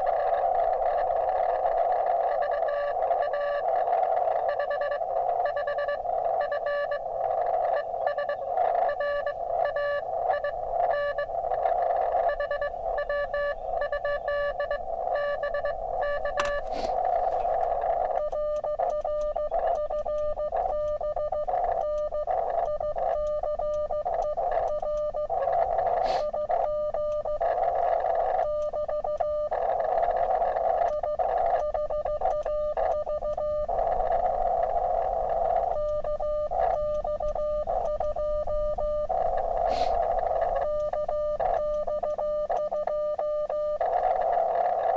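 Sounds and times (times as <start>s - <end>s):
morse code tone: 0.0s - 44.9s
receiver hiss: 0.0s - 44.9s.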